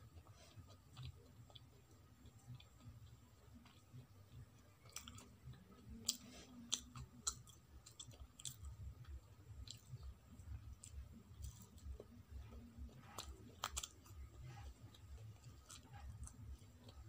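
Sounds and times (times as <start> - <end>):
biting and chewing crunchy food: 0.0 - 17.0.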